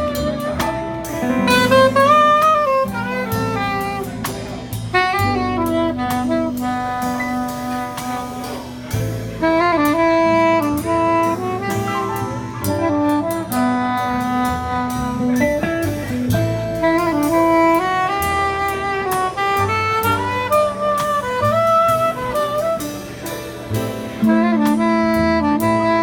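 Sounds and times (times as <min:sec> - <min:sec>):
jazz band accompanying: 0:00.0 - 0:26.0
soprano saxophone melody: 0:00.0 - 0:26.0.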